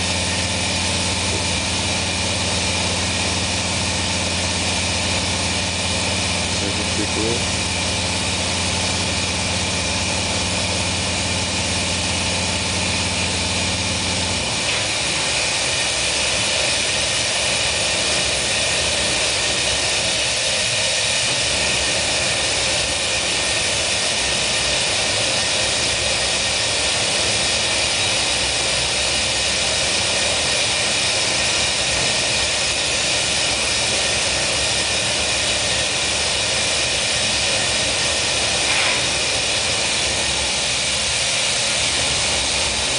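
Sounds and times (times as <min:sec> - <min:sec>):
furnace burners hissing: 0:00.0 - 0:42.9.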